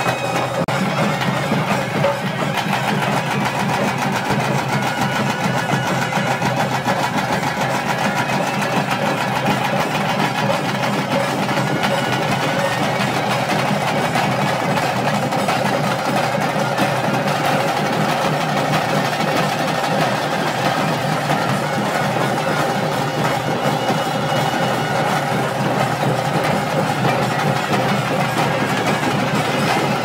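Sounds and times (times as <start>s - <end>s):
fast dense drumming: 0.0s - 30.0s.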